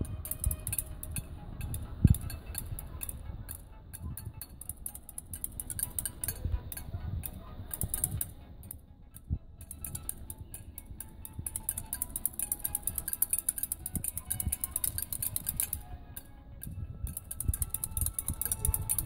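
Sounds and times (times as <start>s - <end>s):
drumsticks clicking on a wall: 0.0s - 8.8s, 9.6s - 19.0s.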